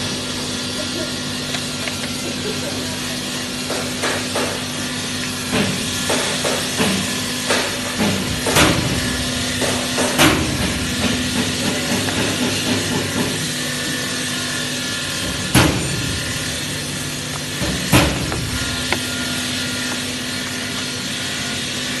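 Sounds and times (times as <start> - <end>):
welding arc hissing: 0.0 - 22.0.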